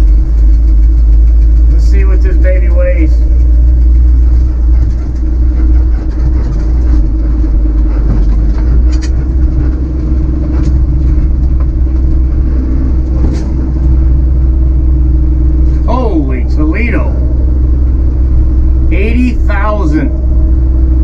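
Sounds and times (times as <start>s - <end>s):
truck engine running low: 0.0s - 21.0s.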